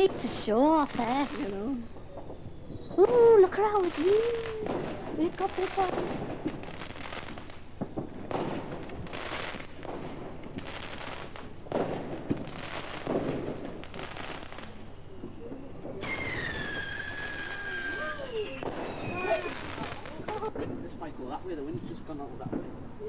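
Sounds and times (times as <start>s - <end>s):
fireworks crackling and popping: 0.0s - 23.0s
whistling firework: 0.0s - 23.0s.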